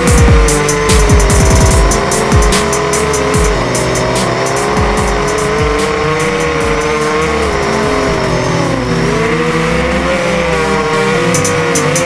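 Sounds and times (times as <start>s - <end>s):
drone motors whining: 0.0s - 12.0s
electronic music with steady beat: 0.0s - 12.0s.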